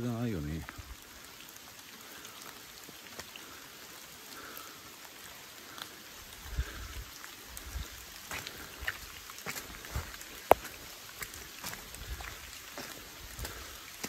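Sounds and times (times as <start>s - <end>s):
rain pattering on leaves: 0.0s - 14.0s
water drips clicking: 0.6s - 14.0s.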